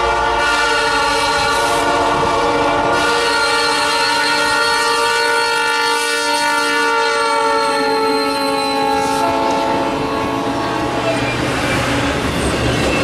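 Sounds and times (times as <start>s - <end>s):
locomotive air horn: 0.0s - 11.9s
rumble of passing train cars: 0.0s - 13.0s.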